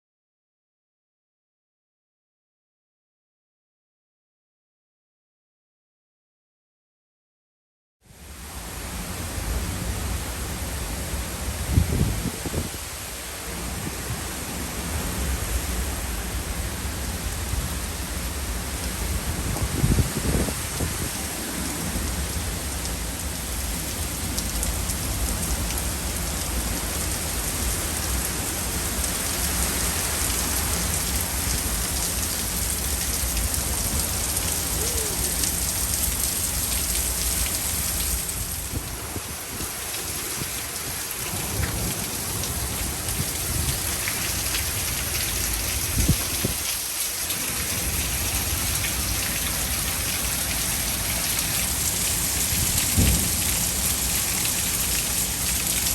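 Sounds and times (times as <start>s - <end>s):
heavy rain pouring: 8.2s - 55.9s.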